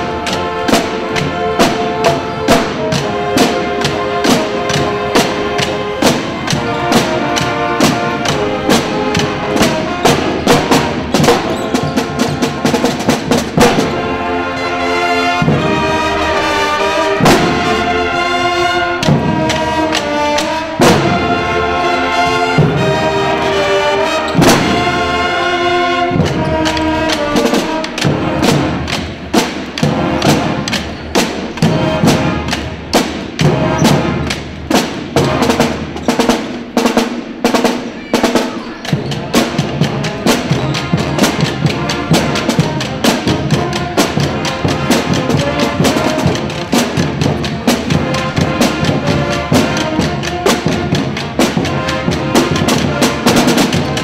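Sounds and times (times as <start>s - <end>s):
brass band playing: 0.0s - 54.0s
snare and bass drums: 0.0s - 54.0s.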